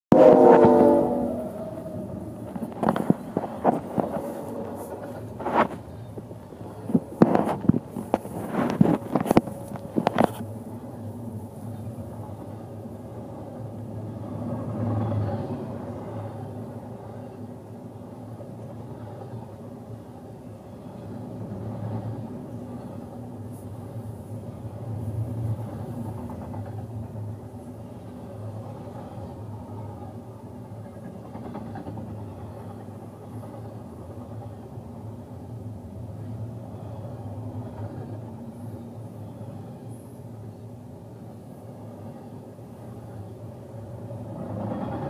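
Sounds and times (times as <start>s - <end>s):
freight train wheels rumbling: 0.1s - 45.0s.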